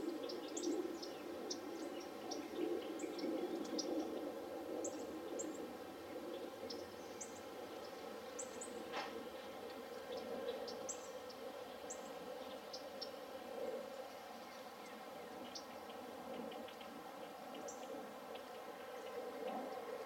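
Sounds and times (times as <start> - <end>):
low outdoor background hum: 0.0 - 20.0
small birds chirping: 0.0 - 20.0.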